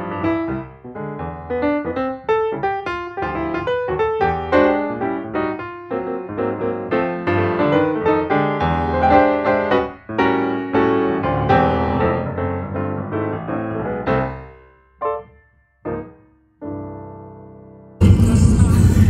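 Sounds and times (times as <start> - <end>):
piano music: 0.0 - 18.1.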